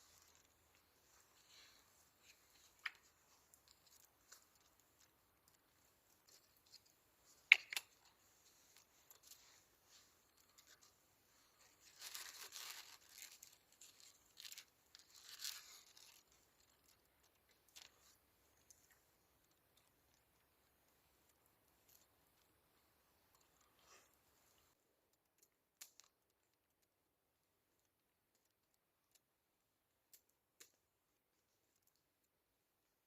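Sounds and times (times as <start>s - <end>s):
rustling and crinkling: 0.0s - 27.0s.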